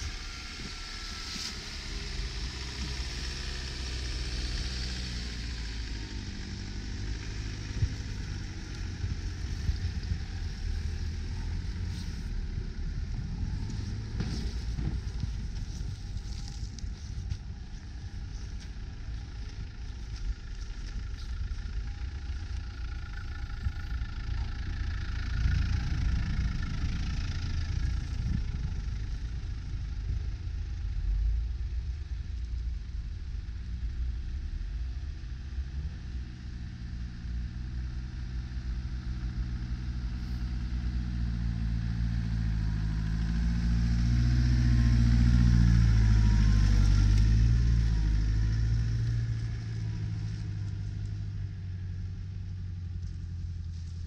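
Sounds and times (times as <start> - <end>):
off-road vehicle engines running: 0.0 - 54.0.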